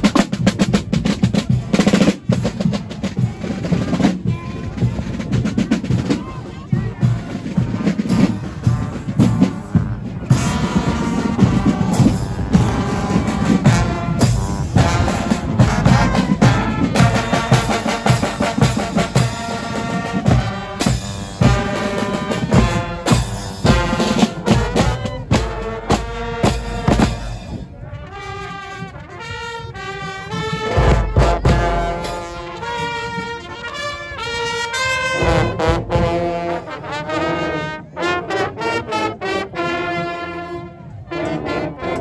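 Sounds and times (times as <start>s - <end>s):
brass band playing a tune: 0.0s - 42.0s
marching drums: 0.0s - 42.0s.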